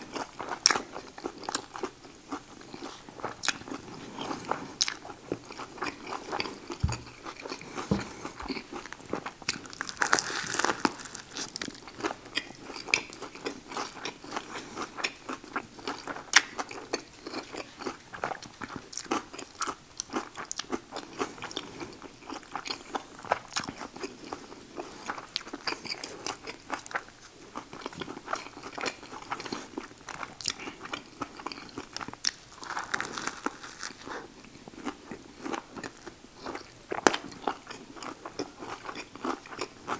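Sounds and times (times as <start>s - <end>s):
person chewing crunchy sandwich: 0.0s - 39.9s.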